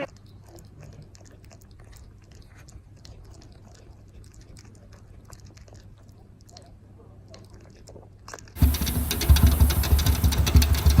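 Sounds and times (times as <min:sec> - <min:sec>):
pet chewing: 0:00.0 - 0:11.0.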